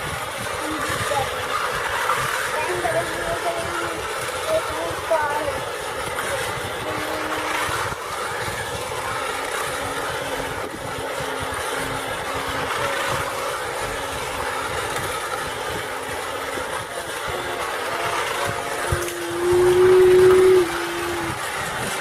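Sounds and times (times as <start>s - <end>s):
toy train motor and wheel clatter: 0.0s - 22.0s.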